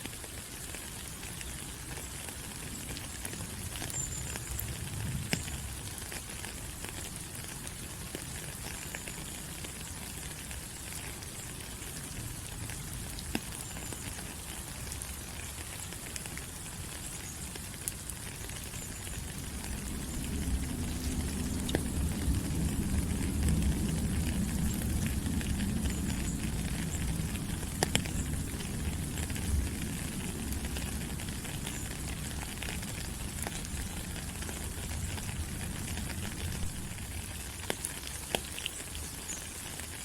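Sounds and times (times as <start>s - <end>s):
rain falling on leaves: 0.0s - 40.0s.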